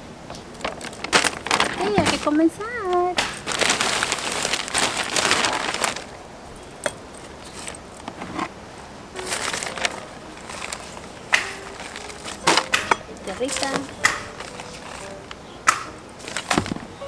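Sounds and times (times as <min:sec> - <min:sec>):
plastic bag crinkling: 0:00.4 - 0:08.2, 0:09.2 - 0:17.0.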